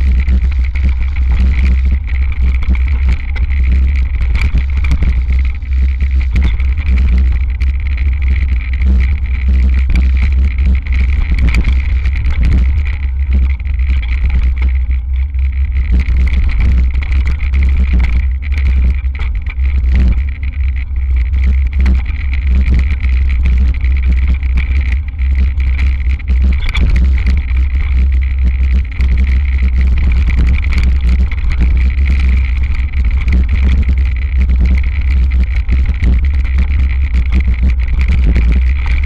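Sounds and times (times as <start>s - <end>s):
bike rattling and knocking: 0.0s - 39.0s
steady high whine: 0.0s - 39.0s
wind and trail rumble: 0.0s - 39.0s.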